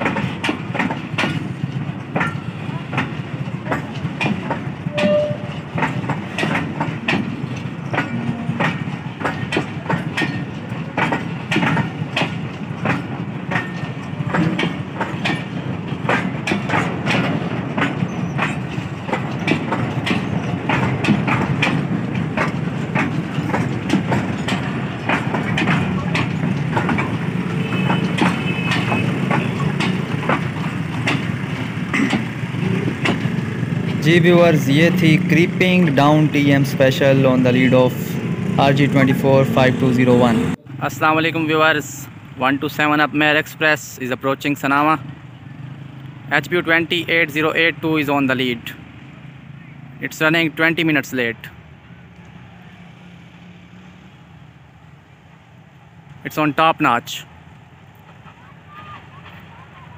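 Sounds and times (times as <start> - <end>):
wheels clanking over rail joints: 0.0 - 59.9
wheels rumbling on rail: 0.0 - 59.9.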